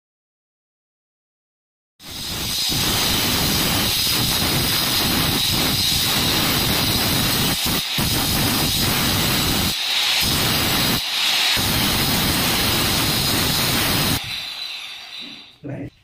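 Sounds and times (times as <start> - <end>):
angle grinder grinding cement: 2.0 - 15.6.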